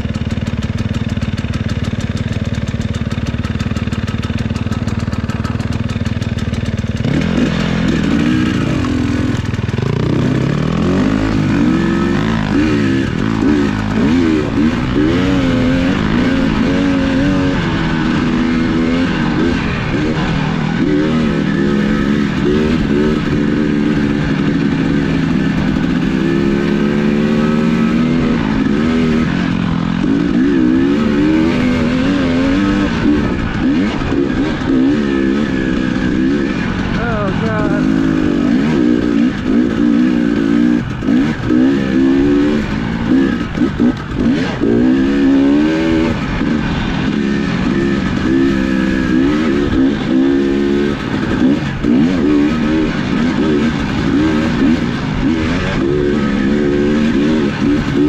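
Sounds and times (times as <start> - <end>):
vehicle engine idling and revving: 0.0 - 58.0.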